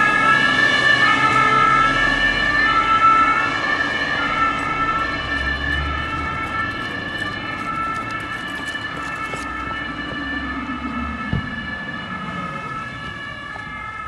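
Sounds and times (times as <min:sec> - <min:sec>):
fire engine two-tone horn: 0:00.0 - 0:14.0
traffic engine rumble: 0:00.0 - 0:14.0.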